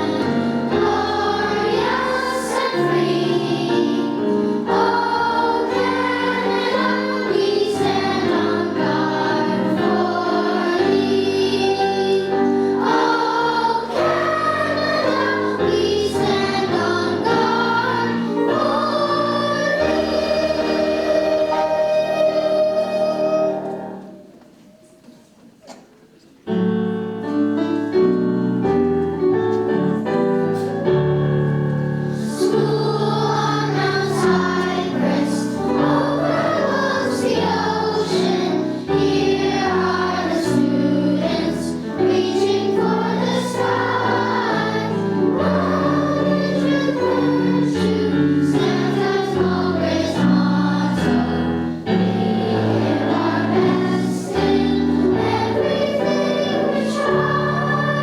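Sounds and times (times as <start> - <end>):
children singing: 0.0 - 25.1, 29.8 - 58.0
piano accompaniment: 0.0 - 25.1, 26.4 - 58.0.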